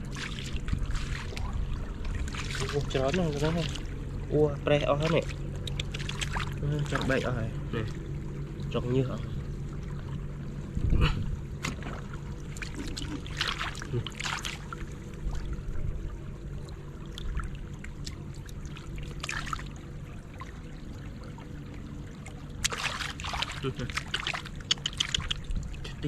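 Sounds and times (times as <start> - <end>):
muddy water splashing: 0.0 - 26.0
steady low hum: 0.0 - 26.0.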